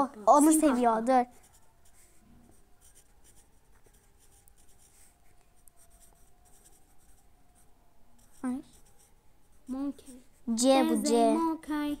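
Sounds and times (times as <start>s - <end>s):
pencil scratching on paper: 0.4s - 11.5s.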